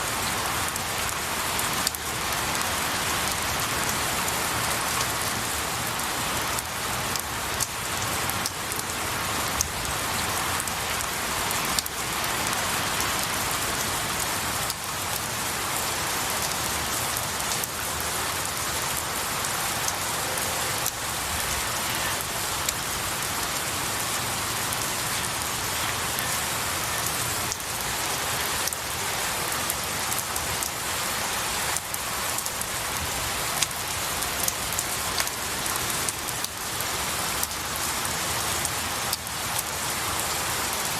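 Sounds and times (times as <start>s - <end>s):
rain falling on trees: 0.0s - 40.9s.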